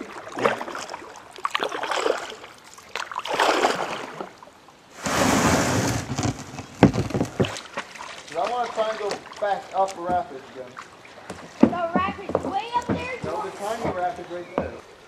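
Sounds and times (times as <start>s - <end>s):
paddle splashes and drips: 0.0s - 15.0s.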